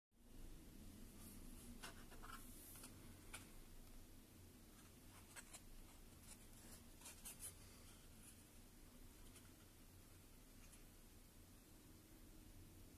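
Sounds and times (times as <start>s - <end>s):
low room hum: 0.2s - 12.9s.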